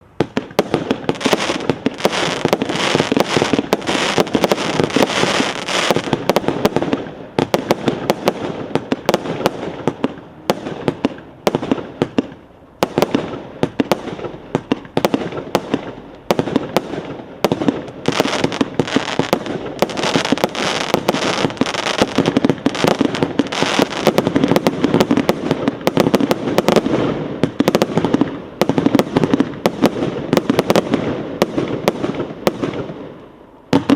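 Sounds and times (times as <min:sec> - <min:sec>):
firework bangs and crackles: 0:00.0 - 0:33.9.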